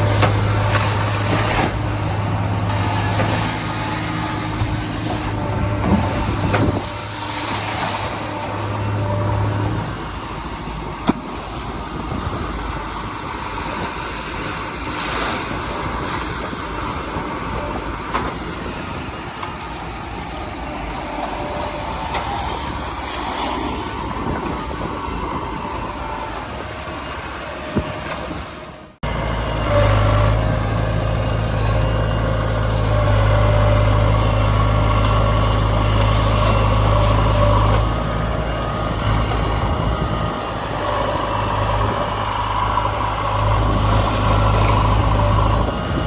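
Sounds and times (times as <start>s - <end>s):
diesel engine running: 0.0s - 46.0s
rough noisy wash: 0.0s - 46.0s.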